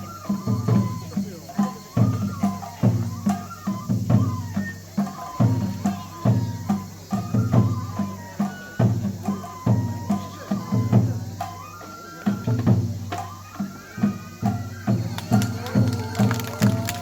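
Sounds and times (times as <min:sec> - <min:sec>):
drums in rhythmic pattern: 0:00.0 - 0:17.0
high flute melody: 0:00.0 - 0:17.0.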